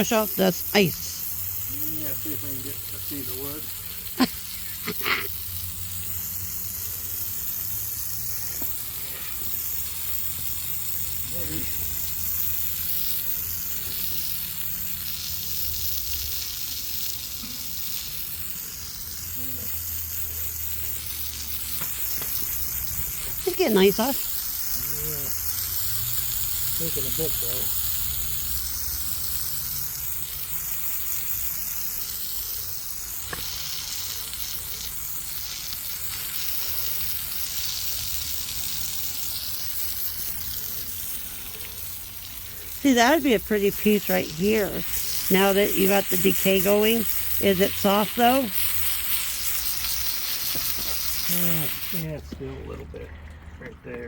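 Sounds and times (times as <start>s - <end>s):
water spray hissing: 0.0s - 52.2s.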